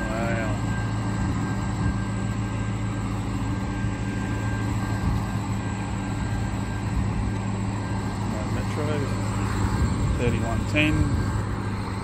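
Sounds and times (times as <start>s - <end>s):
thin high whine: 0.0s - 12.0s
train low hum: 0.0s - 12.0s.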